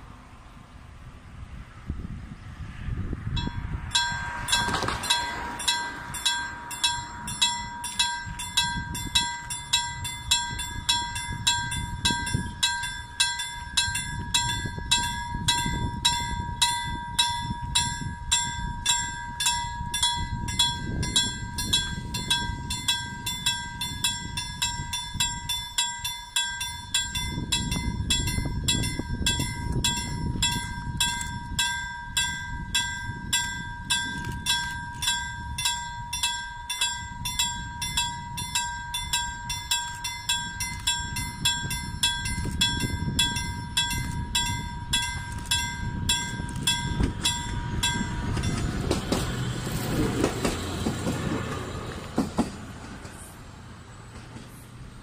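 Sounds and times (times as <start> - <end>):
level-crossing warning bell ringing: 3.3 - 51.9.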